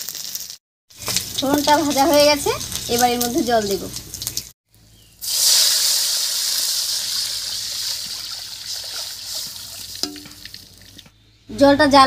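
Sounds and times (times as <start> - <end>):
water sizzling in hot oil: 0.0 - 4.6, 5.2 - 11.1.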